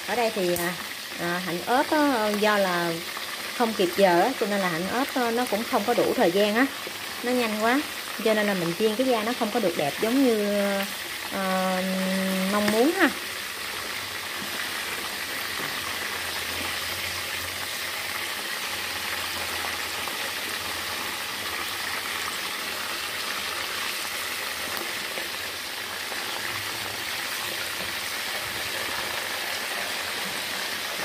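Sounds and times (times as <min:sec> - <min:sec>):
food deep-frying in hot oil: 0:00.0 - 0:31.0.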